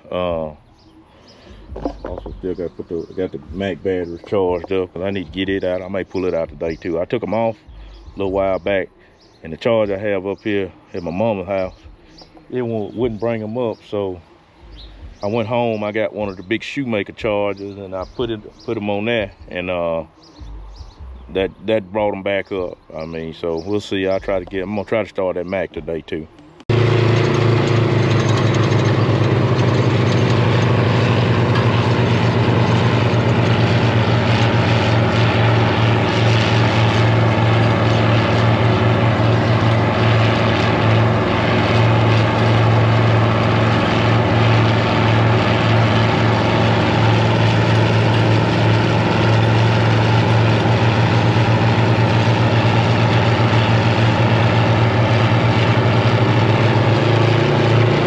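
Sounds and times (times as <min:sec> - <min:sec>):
tractor diesel engine drone: 0:00.0 - 0:58.0.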